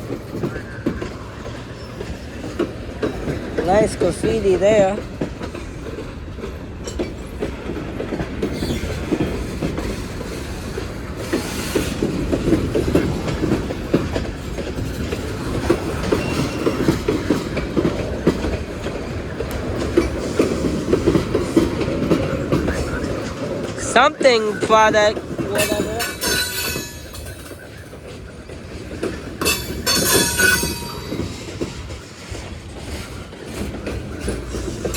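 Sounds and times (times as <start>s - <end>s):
freight train rolling past: 0.0s - 34.9s
wheels clicking over rails: 0.0s - 34.9s.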